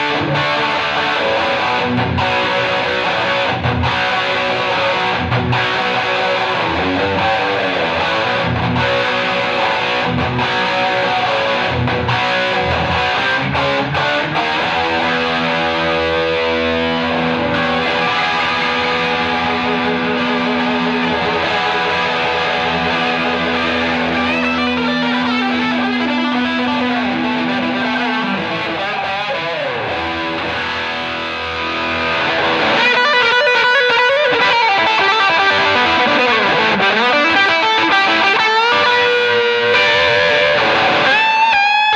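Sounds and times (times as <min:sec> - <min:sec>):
overdriven electric guitar: 0:00.0 - 0:41.9.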